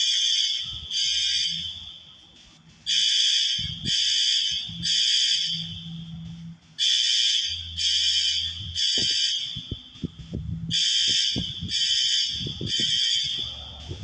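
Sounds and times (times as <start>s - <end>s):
fire alarm beeps: 0.0s - 14.0s.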